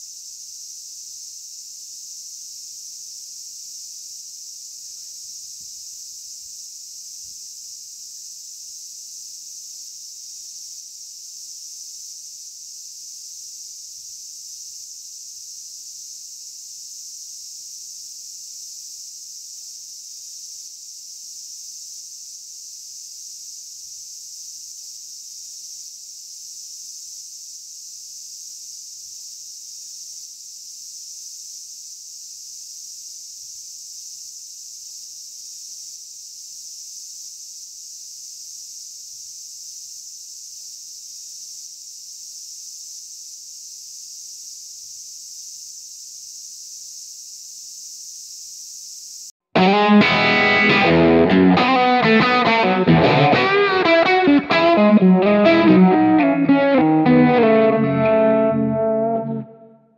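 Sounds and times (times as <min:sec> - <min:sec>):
high-pitched insect drone: 0:00.0 - 0:59.7.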